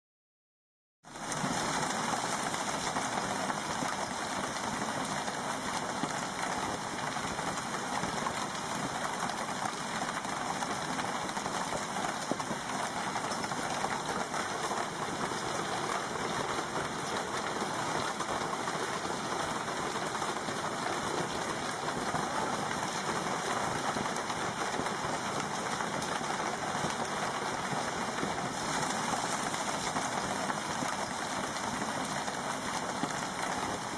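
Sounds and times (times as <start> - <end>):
hail striking ground and car: 1.2 - 33.9.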